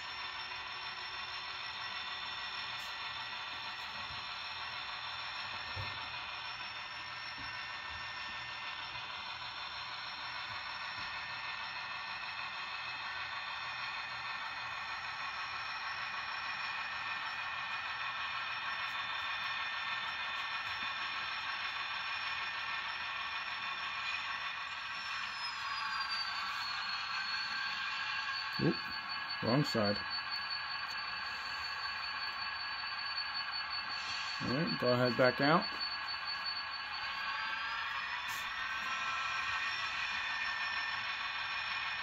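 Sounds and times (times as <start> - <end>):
model locomotive humming: 0.0 - 42.0.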